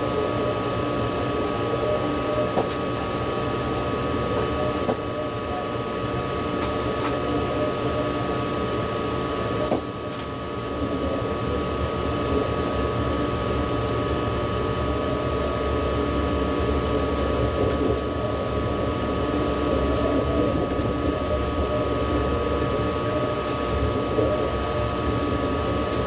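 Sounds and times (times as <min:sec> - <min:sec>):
train hum inside cab: 0:00.0 - 0:26.0.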